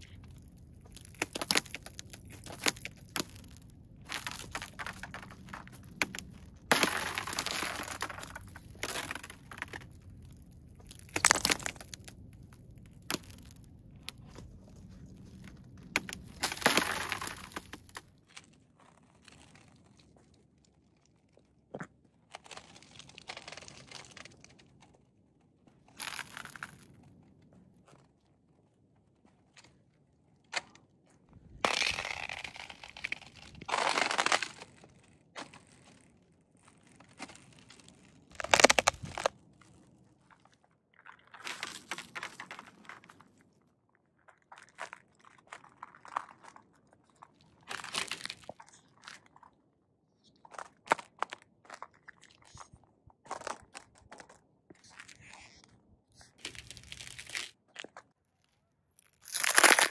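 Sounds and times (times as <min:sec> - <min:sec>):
ice cracking under boots: 0:00.0 - 0:25.1, 0:25.8 - 0:27.2, 0:30.4 - 0:49.6, 0:50.2 - 0:58.2, 0:59.0 - 0:59.9.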